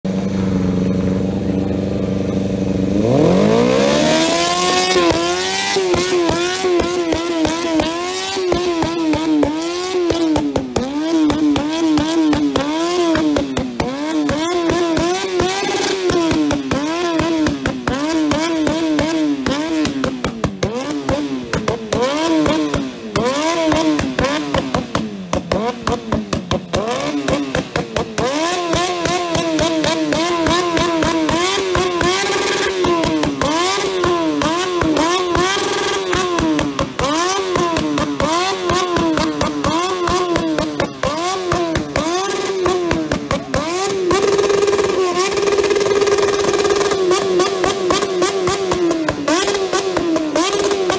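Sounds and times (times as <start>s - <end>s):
motorcycle engine revving: 0.0s - 50.9s
exhaust pops and bangs: 3.2s - 50.9s.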